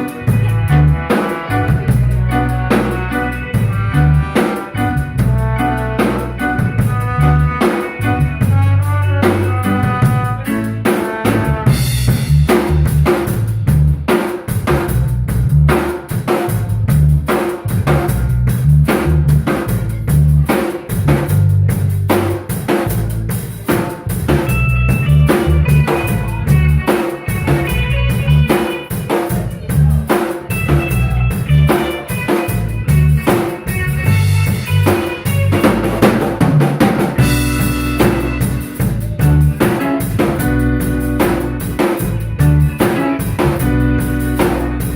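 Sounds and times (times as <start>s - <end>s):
bass line: 0.0s - 44.9s
drum kit beat: 0.0s - 44.9s
live instrumental band: 0.0s - 44.9s.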